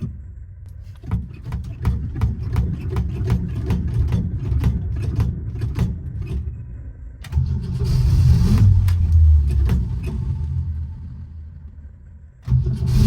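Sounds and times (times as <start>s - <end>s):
engine cranking by starter: 0.0s - 13.0s
engine firing: 0.0s - 13.0s.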